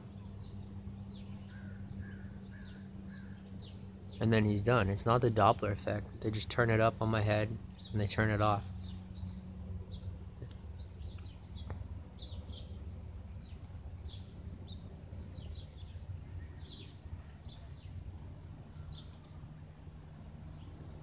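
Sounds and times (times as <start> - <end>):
small birds chirping: 0.0 - 21.0
steady low drone: 0.0 - 21.0.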